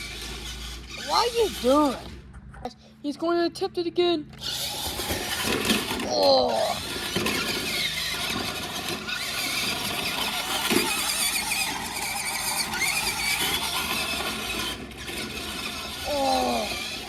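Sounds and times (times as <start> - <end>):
rc truck motor whining: 0.0 - 2.8, 4.3 - 17.0.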